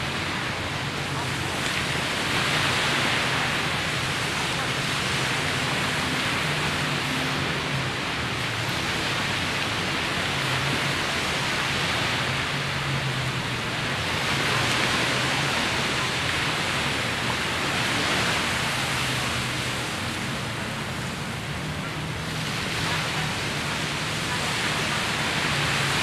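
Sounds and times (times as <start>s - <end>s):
small waves breaking on sand: 0.0s - 26.0s.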